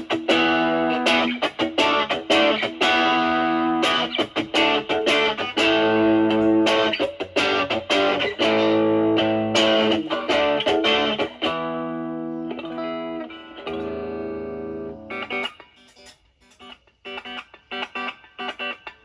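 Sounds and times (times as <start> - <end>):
lightly driven electric guitar: 0.0 - 19.0.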